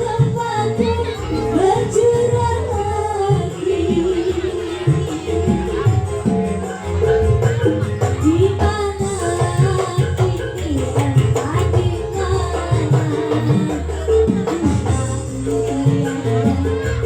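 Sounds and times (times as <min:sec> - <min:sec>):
hand drums playing: 0:00.0 - 0:17.0.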